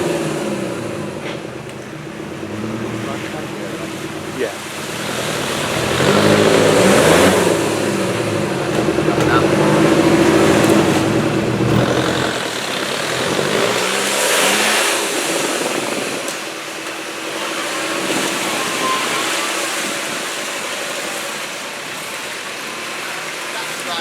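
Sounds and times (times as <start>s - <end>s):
engine running under load: 0.0s - 24.0s.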